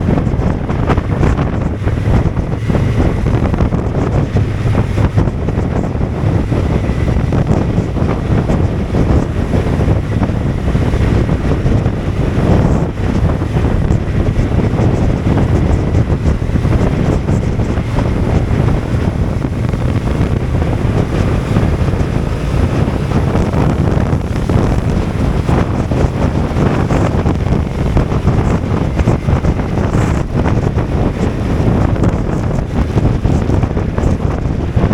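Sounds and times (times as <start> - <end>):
rush of motorcycle ride: 0.0 - 34.9
wind buffeting microphone: 0.0 - 34.9.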